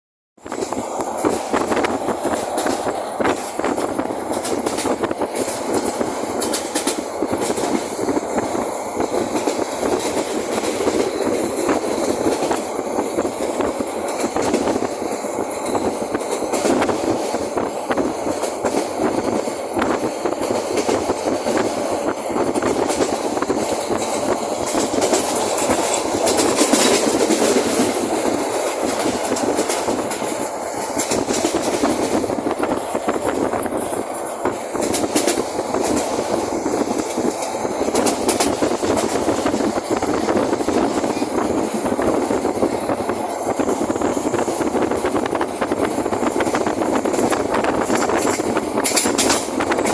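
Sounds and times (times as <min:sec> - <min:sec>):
train wheels rumbling: 0:00.4 - 0:49.9.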